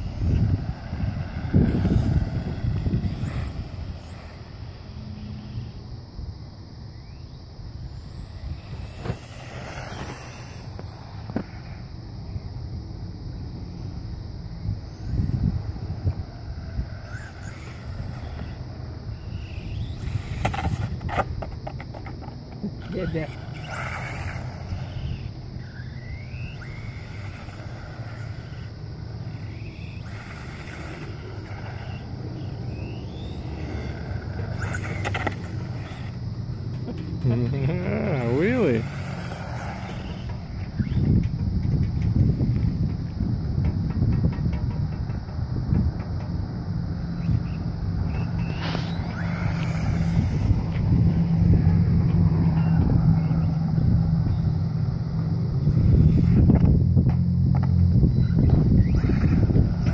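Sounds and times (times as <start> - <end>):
toy truck motor whine: 0.0 - 5.8, 7.0 - 12.4, 14.8 - 45.6, 46.4 - 56.7, 57.5 - 59.9.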